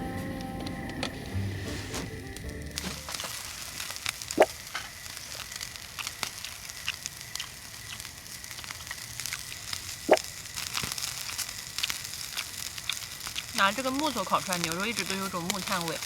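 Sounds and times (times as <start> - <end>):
fire popping and crackling: 0.0 - 16.0
meat sizzling on grill: 0.0 - 16.0.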